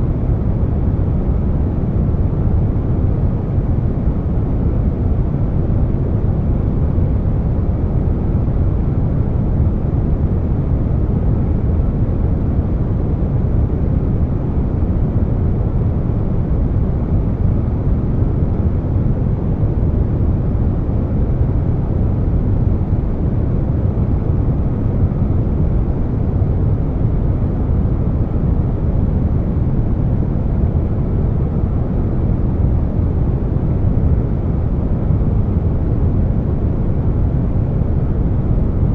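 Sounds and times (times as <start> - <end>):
air conditioner noise: 0.0 - 38.9.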